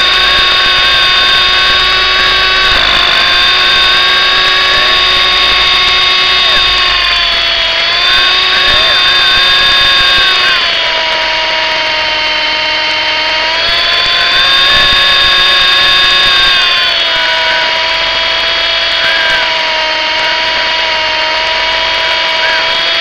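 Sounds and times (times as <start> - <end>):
helicopter motor whining: 0.0 - 23.0.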